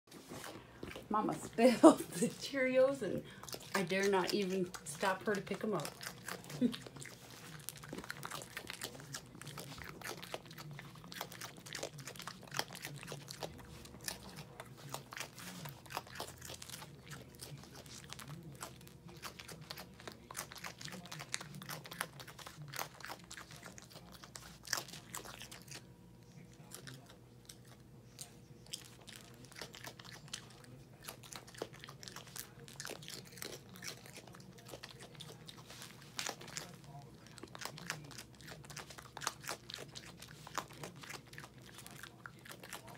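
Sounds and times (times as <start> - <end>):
raccoon crunching cereal: 0.1 - 42.9.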